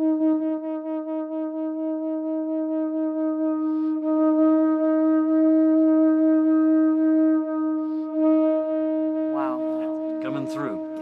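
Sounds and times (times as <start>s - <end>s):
conch shell trumpet note: 0.0s - 11.0s.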